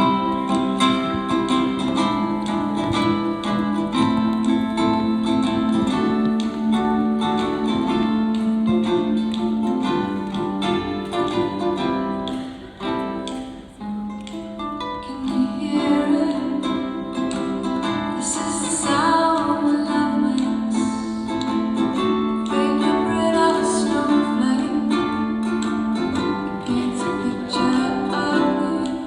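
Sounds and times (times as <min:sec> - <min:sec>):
acoustic guitar picking: 0:00.0 - 0:29.0.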